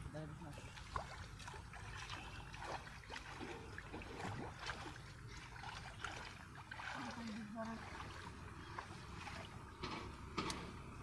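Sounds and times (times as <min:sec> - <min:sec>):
water sloshing around wading person: 0:00.4 - 0:11.0.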